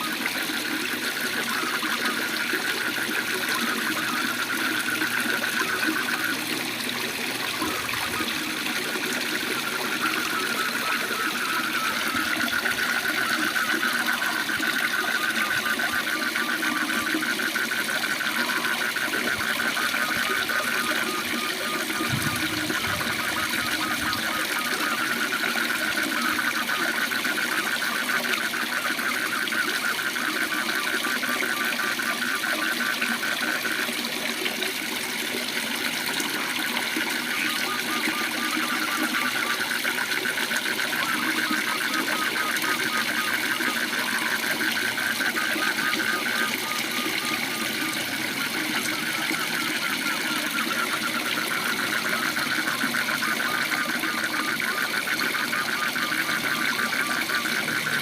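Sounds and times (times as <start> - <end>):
frogs trilling: 0.0 - 58.0.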